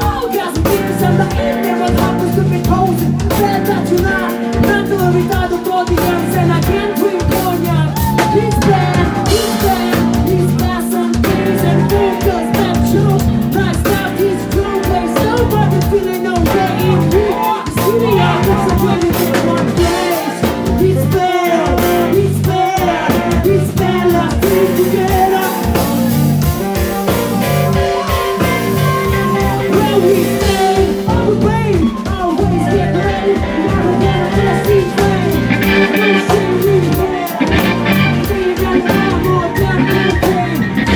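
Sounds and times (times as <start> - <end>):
drum kit beat: 0.0 - 40.9
guitar: 0.0 - 40.9
keyboards: 0.0 - 40.9
person singing: 0.0 - 40.9.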